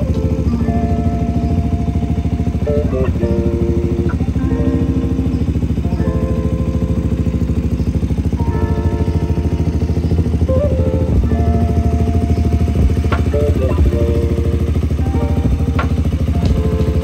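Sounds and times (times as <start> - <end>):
background music: 0.0 - 17.0
motorcycle engine idling: 0.0 - 17.0.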